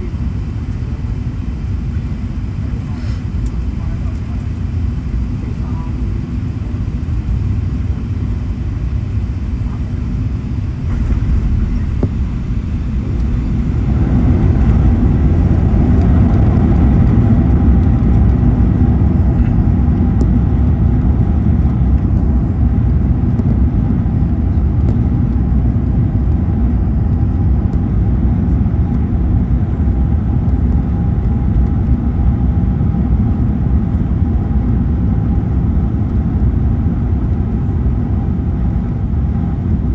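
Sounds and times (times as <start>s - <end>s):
low rumble of engines and airflow: 0.0s - 39.9s.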